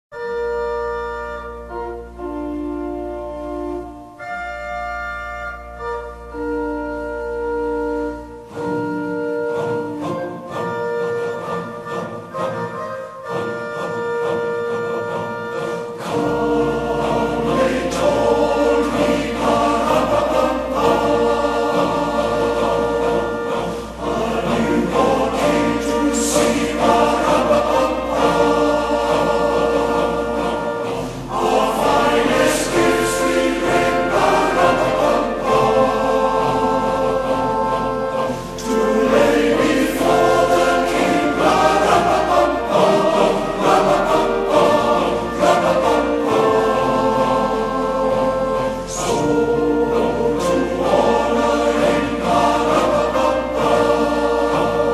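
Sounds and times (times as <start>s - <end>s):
choir singing: 0.2s - 54.9s.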